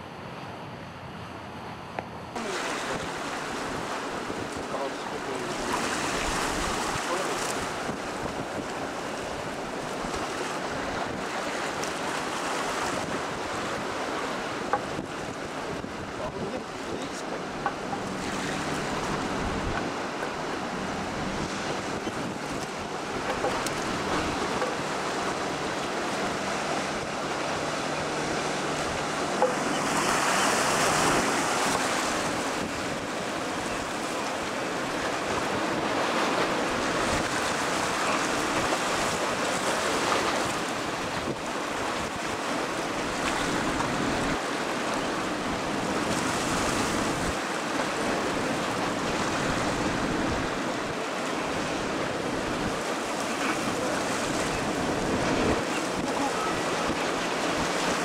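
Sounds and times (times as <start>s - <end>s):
surf breaking: 2.4s - 58.0s.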